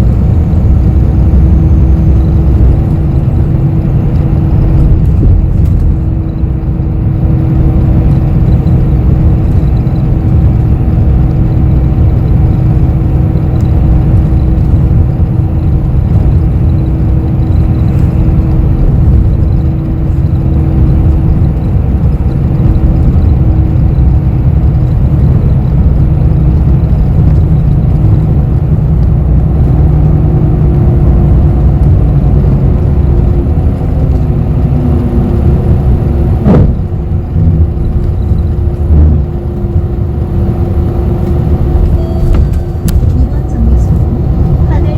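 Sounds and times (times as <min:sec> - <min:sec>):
bus engine and road noise: 0:00.0 - 0:44.9
hum: 0:00.0 - 0:44.9.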